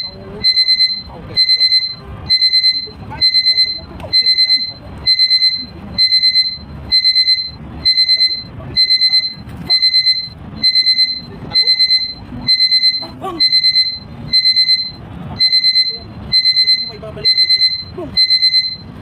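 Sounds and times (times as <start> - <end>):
electronic alarm beeping: 0.0 - 19.0.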